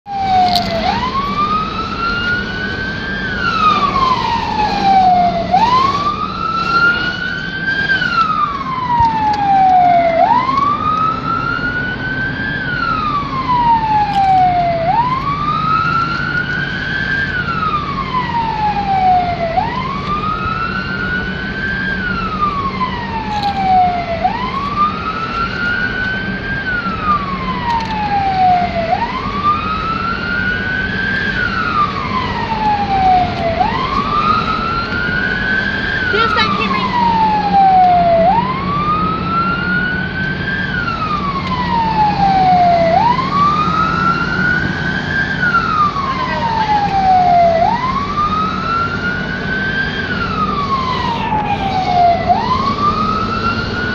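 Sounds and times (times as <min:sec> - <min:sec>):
engine and road hum: 0:00.0 - 0:53.9
siren wailing: 0:00.0 - 0:53.9.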